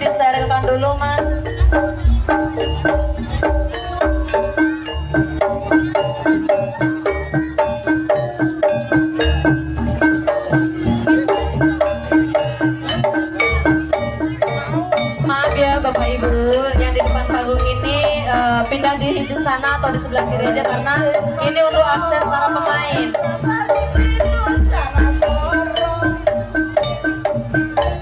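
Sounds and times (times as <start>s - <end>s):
low drum beats: 0.0s - 28.0s
struck metal mallet instrument notes: 0.0s - 28.0s.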